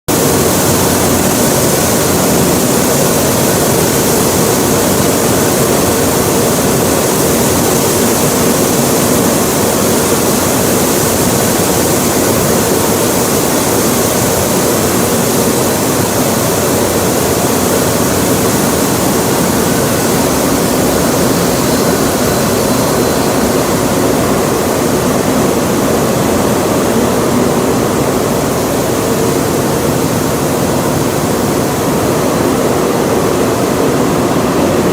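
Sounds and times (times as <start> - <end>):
mill machinery din: 0.1 - 34.9.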